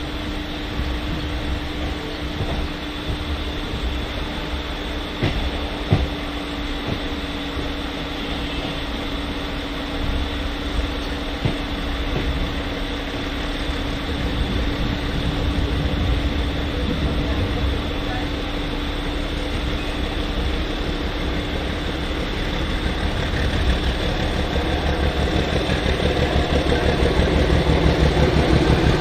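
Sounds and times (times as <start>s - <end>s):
train rumble and hum: 0.0s - 29.0s.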